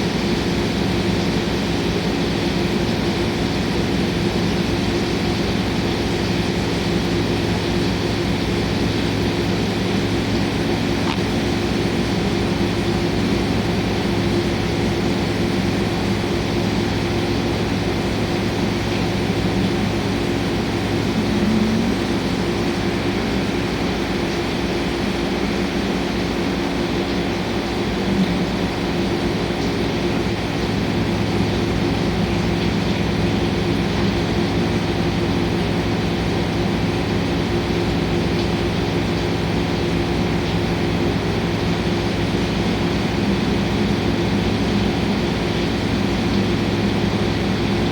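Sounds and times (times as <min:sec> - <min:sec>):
spindle hum: 0:00.0 - 0:47.9.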